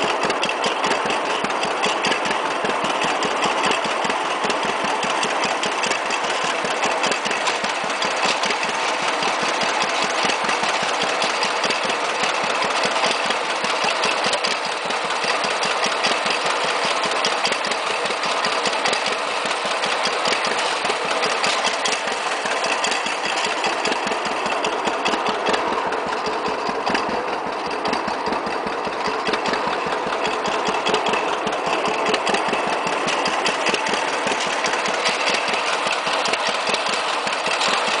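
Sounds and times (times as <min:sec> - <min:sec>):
tractor engine idling: 0:00.0 - 0:38.0.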